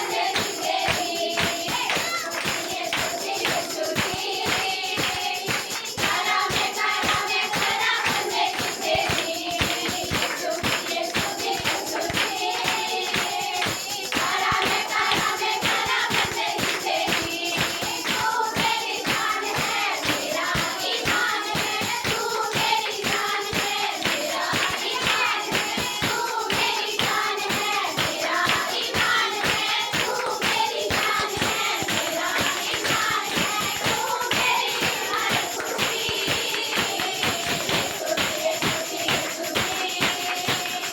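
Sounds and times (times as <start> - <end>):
fast percussion beat: 0.0 - 40.9
group singing worship song: 0.0 - 40.9.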